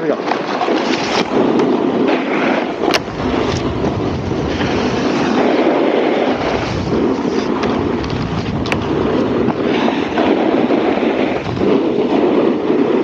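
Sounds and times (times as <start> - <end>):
wind on microphone: 0.0 - 13.0
snowboard scraping on snow: 0.2 - 13.0.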